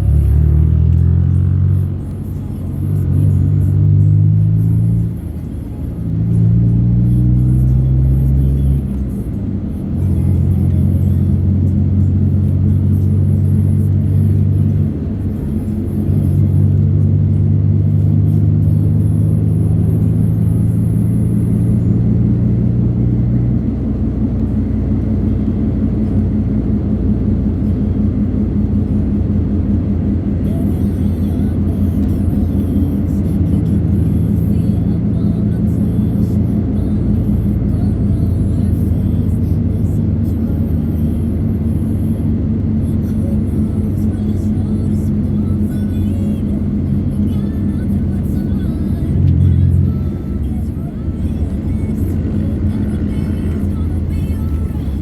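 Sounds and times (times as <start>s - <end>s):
bass-heavy music on car stereo: 0.0s - 55.0s
moving car rumble: 0.0s - 55.0s.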